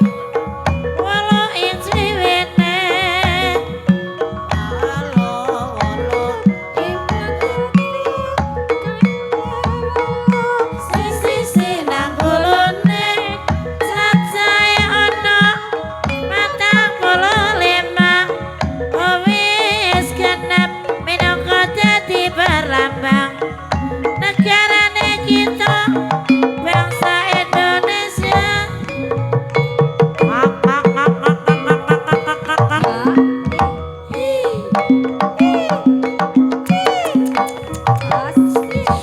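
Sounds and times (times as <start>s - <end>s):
hand drum strokes: 0.0s - 39.0s
metallophone tones: 0.0s - 39.0s
wavering singing voice: 0.0s - 39.0s.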